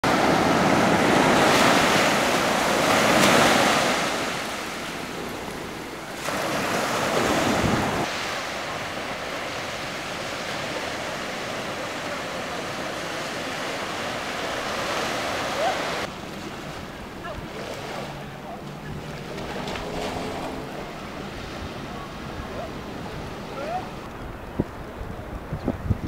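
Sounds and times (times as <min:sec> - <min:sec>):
waves washing up beach: 0:00.0 - 0:25.5.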